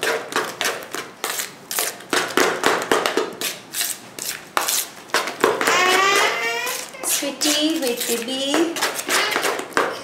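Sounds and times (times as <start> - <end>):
spoon stirring batter in bowl: 0.0 - 10.0.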